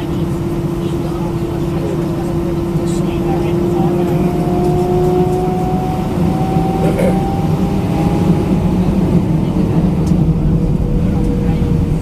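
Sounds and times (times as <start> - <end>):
aircraft cabin low rumble: 0.0 - 12.0
jet engines humming: 0.0 - 12.0.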